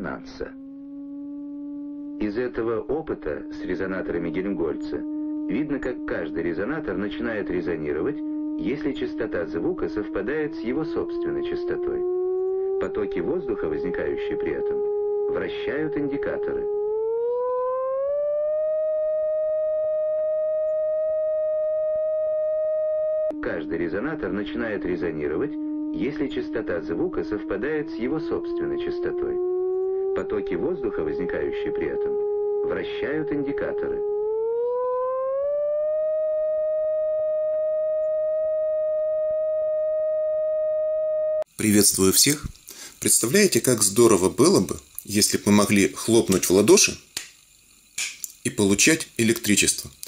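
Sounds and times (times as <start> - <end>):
rising test tone: 0.0 - 50.0.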